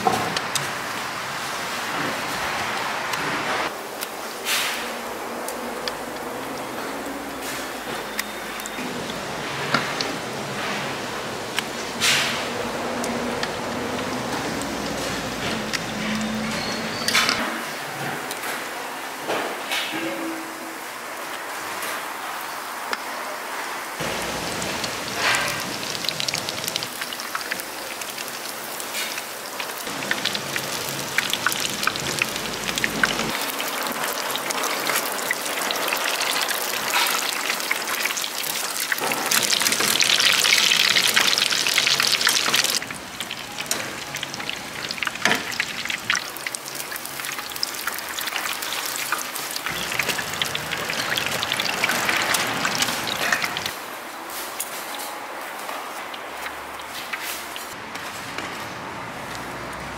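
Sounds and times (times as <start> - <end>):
deep-frying sizzle and crackles: 0.0 - 19.9, 20.9 - 59.9.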